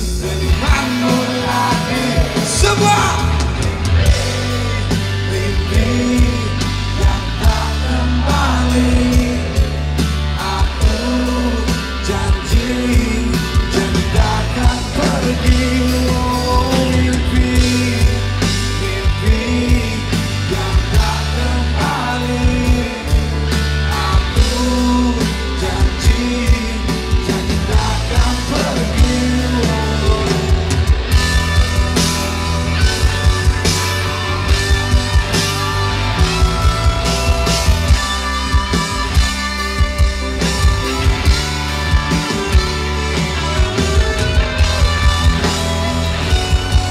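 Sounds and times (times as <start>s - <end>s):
electric guitars: 0.0s - 46.9s
live rock band playing: 0.0s - 46.9s
steady drum beat: 0.0s - 46.9s.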